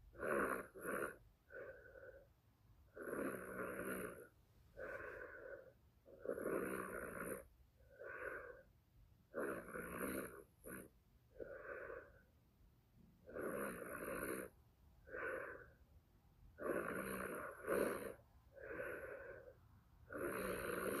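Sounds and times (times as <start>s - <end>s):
person snoring: 0.1s - 2.2s, 2.9s - 8.6s, 9.3s - 12.2s, 13.2s - 15.8s, 16.6s - 21.0s.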